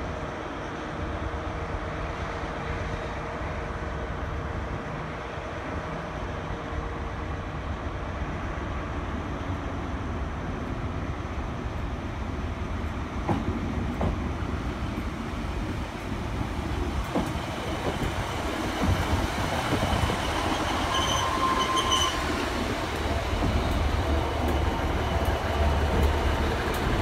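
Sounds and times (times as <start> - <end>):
train engine drone: 0.0 - 27.0.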